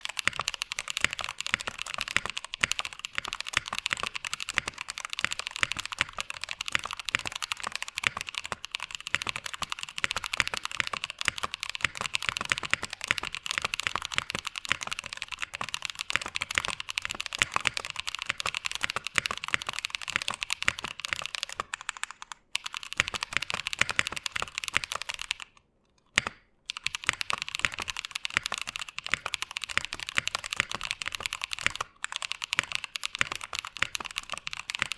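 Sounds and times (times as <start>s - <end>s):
typing on mechanical keyboard: 0.0s - 34.9s.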